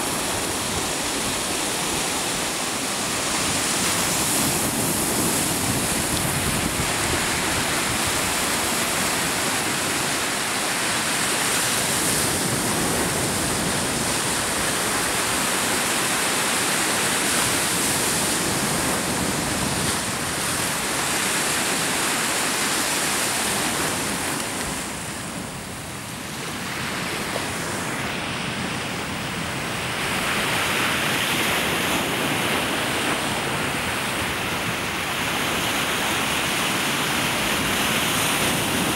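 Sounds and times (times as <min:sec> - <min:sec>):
waves washing through slush ice: 0:00.0 - 0:38.9.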